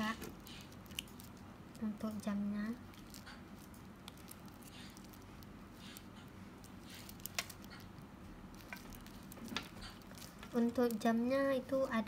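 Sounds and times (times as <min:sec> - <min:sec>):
fingers rustling on plastic wrap: 0:00.0 - 0:12.0.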